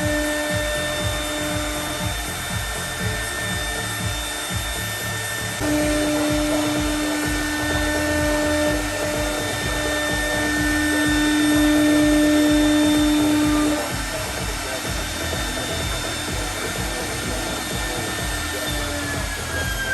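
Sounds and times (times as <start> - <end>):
machine running: 0.0 - 19.9
router spindle whining: 0.0 - 19.9.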